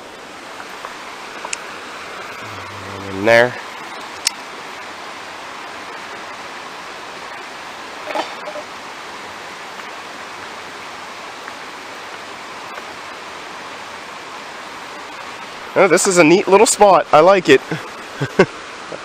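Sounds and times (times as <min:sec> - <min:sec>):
water rushing over rocks: 0:00.0 - 0:16.6.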